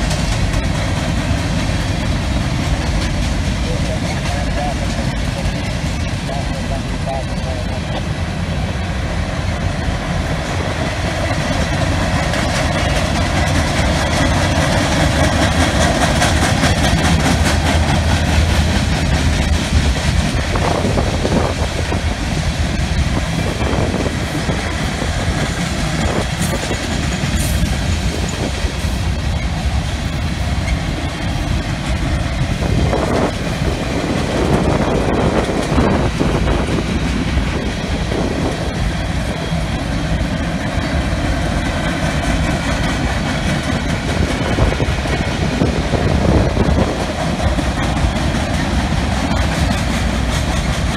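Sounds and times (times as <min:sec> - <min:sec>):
freight train rumbling past: 0:00.0 - 0:50.9
wheels clacking over rail joints: 0:00.0 - 0:50.9.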